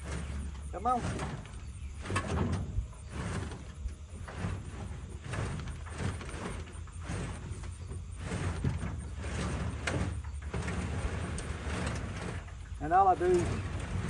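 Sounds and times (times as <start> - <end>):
wooden cage dragged across grass: 0.0 - 14.0.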